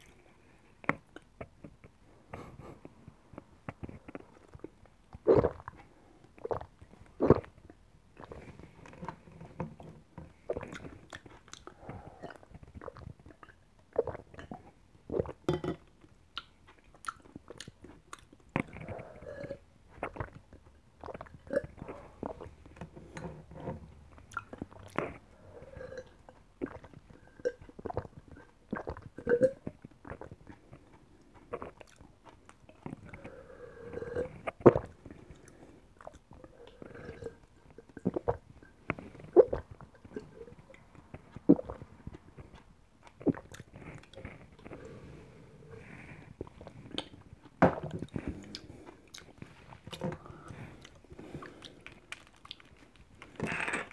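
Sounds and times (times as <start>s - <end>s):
person swallowing gulps: 0.8s - 30.6s, 31.4s - 35.4s, 36.0s - 52.7s.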